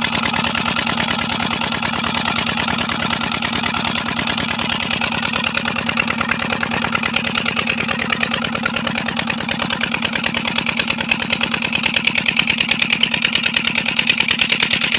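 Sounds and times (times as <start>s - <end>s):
diesel engine running: 0.0s - 14.9s
water pump: 0.0s - 14.9s.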